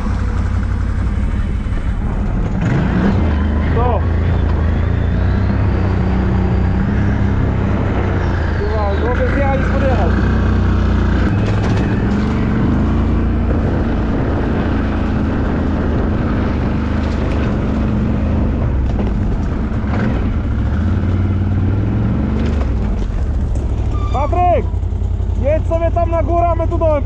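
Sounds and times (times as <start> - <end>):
atv engine droning: 0.0 - 27.0.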